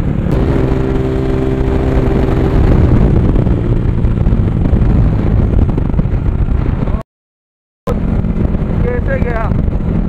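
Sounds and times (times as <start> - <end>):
motorcycle engine running: 0.0 - 7.0, 7.9 - 10.0
wind rumble on microphone: 0.0 - 7.0, 7.9 - 10.0.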